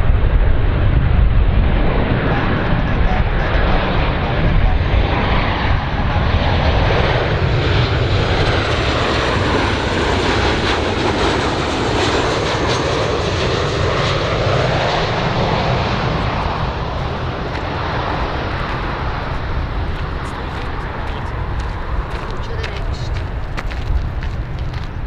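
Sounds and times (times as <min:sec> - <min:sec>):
airplane engines rushing: 0:00.0 - 0:25.0.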